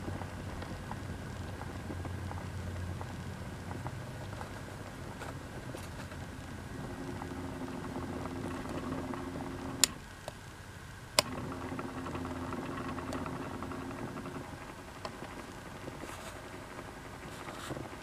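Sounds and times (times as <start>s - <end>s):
turntable motor humming: 0.0s - 10.4s, 11.1s - 18.0s.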